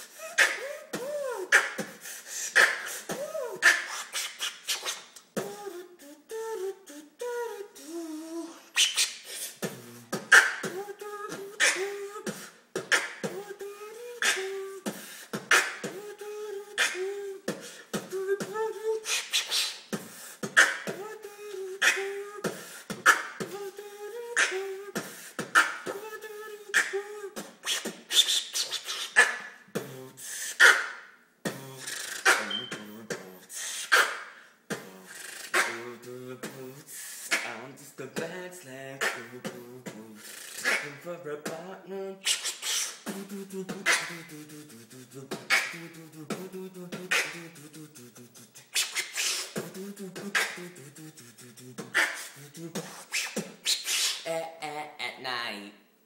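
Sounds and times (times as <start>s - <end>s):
humming a tune: 0.0s - 4.3s, 5.2s - 30.3s, 31.4s - 54.9s
beatboxing clicks: 0.0s - 54.3s.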